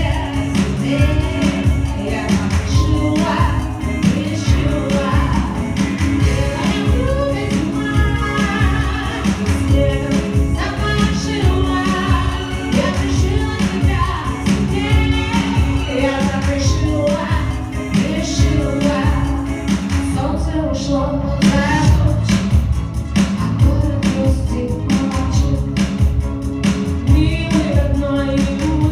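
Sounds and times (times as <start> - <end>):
song with instrumental beat: 0.0 - 20.5, 21.4 - 28.9.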